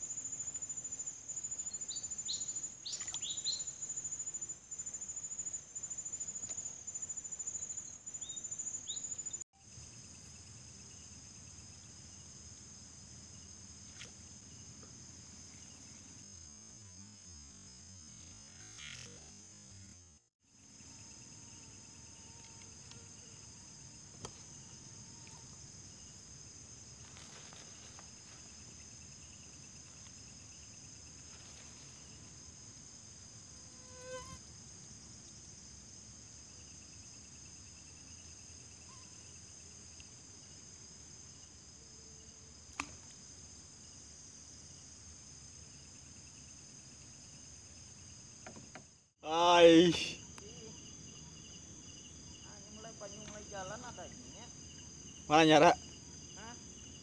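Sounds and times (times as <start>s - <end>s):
insect chirps: 0.0s - 57.0s
night insects trilling: 0.0s - 57.0s.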